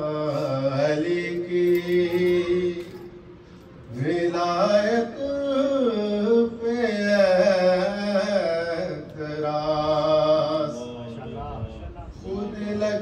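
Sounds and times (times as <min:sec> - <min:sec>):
man singing devotional verse: 0:00.0 - 0:03.1, 0:03.8 - 0:13.0.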